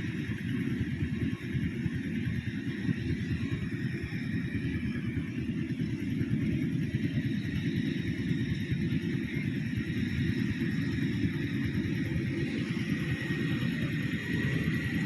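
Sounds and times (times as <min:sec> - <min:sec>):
combine harvester engine rumble: 0:00.0 - 0:15.0.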